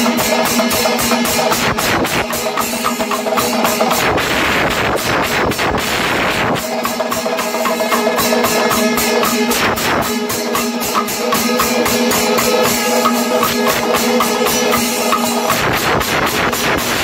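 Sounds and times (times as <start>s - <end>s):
clashing cymbals: 0.0s - 17.0s
rapid drum strokes: 0.0s - 17.0s
steady ringing tone: 0.0s - 17.0s.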